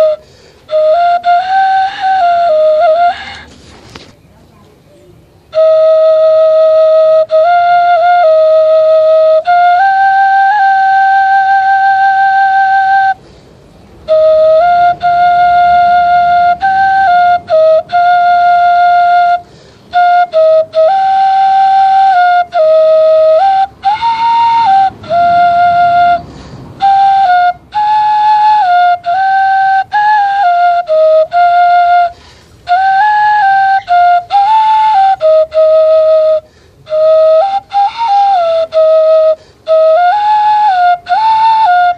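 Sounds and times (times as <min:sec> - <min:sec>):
bamboo flute slow melody: 0:00.0 - 0:04.1, 0:05.0 - 0:41.9.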